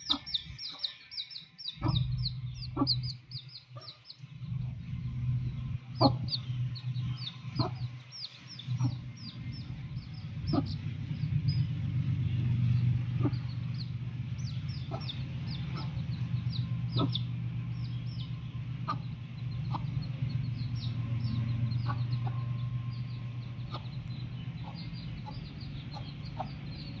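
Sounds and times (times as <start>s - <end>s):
hen clucking: 0.0s - 5.0s, 5.6s - 11.7s, 12.6s - 27.0s
chicks peeping: 0.0s - 27.0s
steady low hum: 0.0s - 27.0s.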